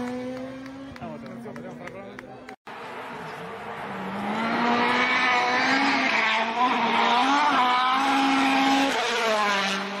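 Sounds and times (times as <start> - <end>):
rally car engine at full throttle: 0.0 - 10.0.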